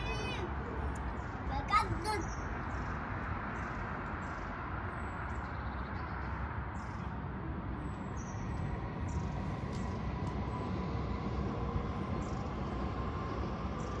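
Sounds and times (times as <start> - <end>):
birds chirping: 0.0 - 14.0
distant city traffic hum: 0.0 - 14.0.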